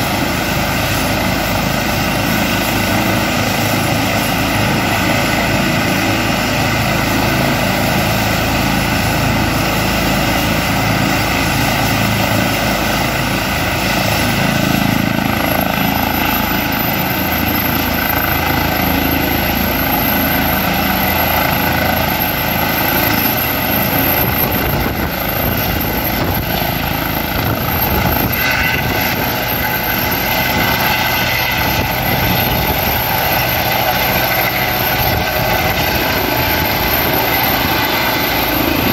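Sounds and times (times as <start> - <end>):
helicopter rotor and turbine whine: 0.0 - 38.9.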